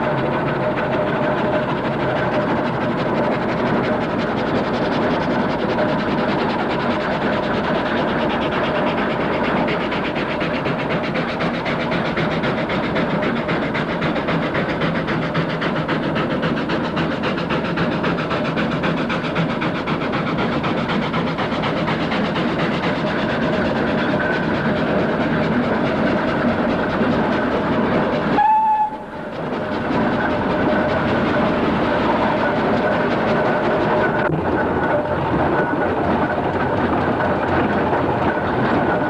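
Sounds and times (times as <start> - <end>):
engine chugging: 0.0 - 39.0.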